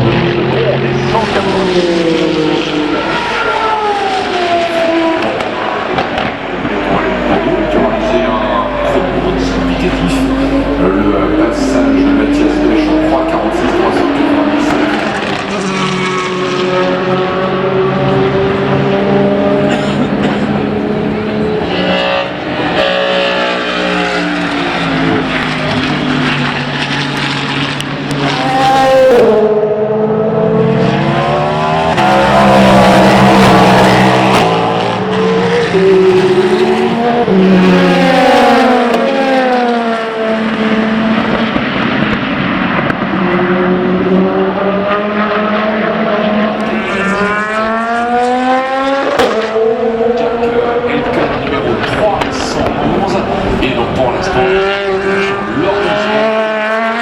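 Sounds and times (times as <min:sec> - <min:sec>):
race cars passing: 0:00.0 - 0:57.0.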